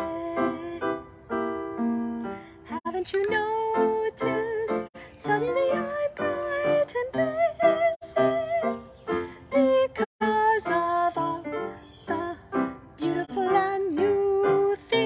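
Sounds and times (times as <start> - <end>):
woman singing with vibrato: 0.0 - 1.0, 2.7 - 15.0.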